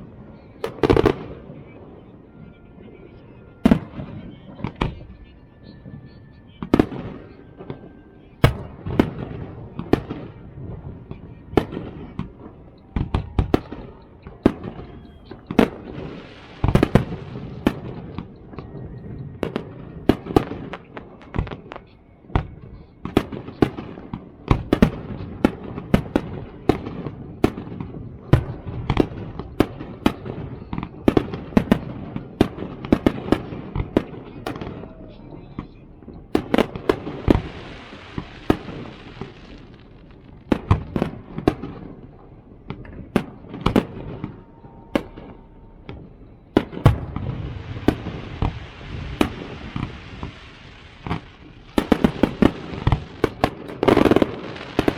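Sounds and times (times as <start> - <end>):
fireworks bangs and bursts: 0.0 - 1.8, 3.6 - 5.2, 6.6 - 54.9
fireworks rumble and crackle: 0.0 - 54.9.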